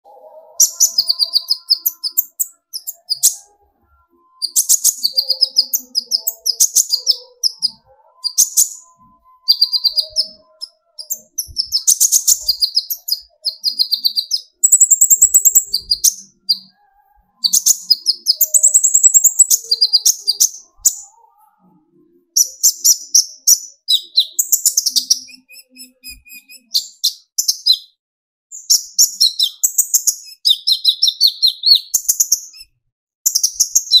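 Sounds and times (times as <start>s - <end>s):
sunbird chattering song: 0.5s - 3.6s, 4.4s - 21.2s, 22.4s - 32.7s, 33.3s - 34.0s.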